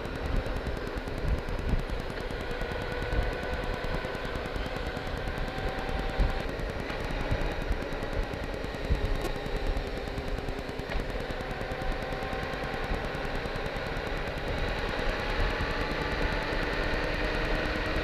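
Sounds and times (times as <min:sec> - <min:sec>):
motorcycle engine: 0:00.0 - 0:18.0.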